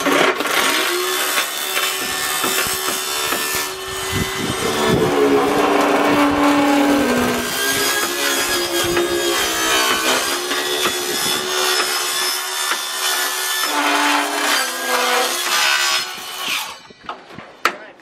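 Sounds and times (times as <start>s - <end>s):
circular saw cutting plywood: 0.0s - 17.0s.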